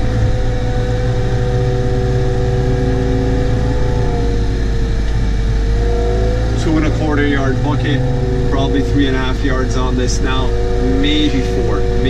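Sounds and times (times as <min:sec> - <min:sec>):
diesel engine drone: 0:00.0 - 0:12.0
steady engine whine: 0:00.0 - 0:12.0.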